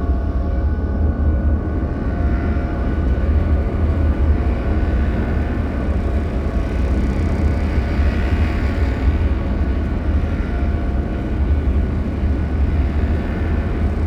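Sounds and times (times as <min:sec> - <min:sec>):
deep rumble drone: 0:00.0 - 0:14.0.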